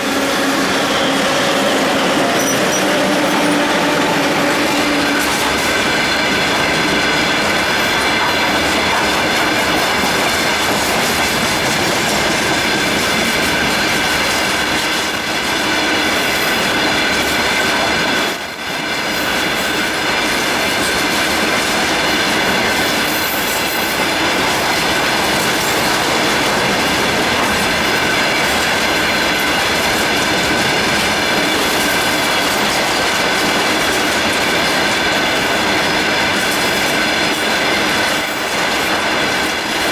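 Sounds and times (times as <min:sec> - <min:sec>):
train wheels clattering: 0:00.0 - 0:39.9
wheels ringing on rails: 0:00.0 - 0:39.9.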